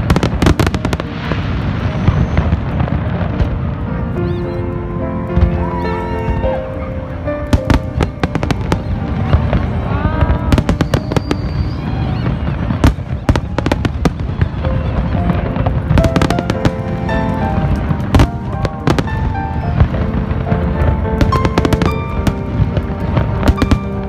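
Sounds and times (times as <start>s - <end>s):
fireworks bangs and crackles: 0.0s - 24.0s
music playing: 0.0s - 24.0s.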